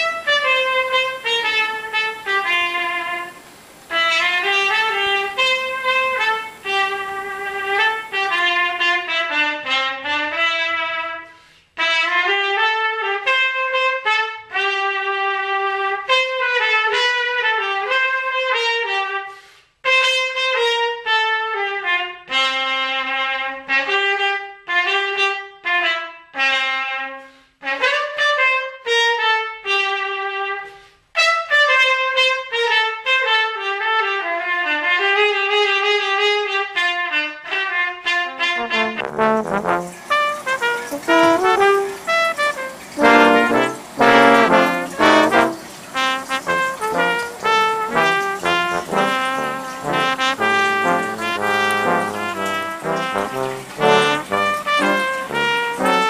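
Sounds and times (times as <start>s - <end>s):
solo brass melody: 0.0s - 56.0s.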